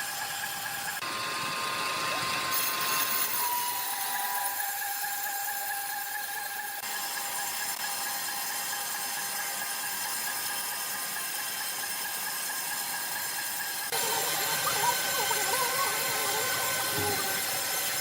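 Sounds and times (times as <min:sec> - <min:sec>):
sawmill machinery hiss and whine: 0:00.0 - 0:18.0.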